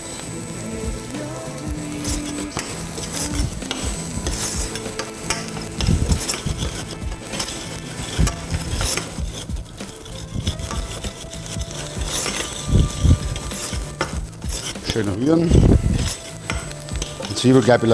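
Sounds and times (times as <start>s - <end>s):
food sizzling in butter: 0.0s - 17.9s
metal spoon scraping saucepan: 1.1s - 17.9s.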